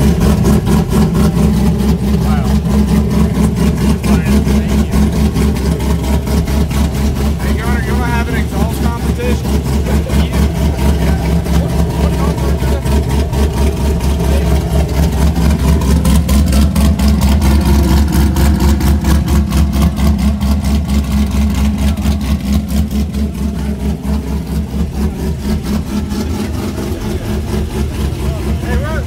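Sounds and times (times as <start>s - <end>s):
van engine idling loudly: 0.0s - 29.0s.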